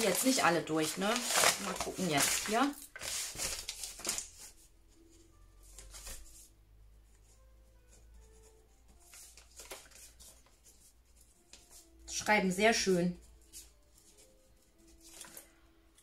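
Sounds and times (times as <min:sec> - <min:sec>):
paper rustling: 0:00.0 - 0:06.5, 0:07.1 - 0:15.6.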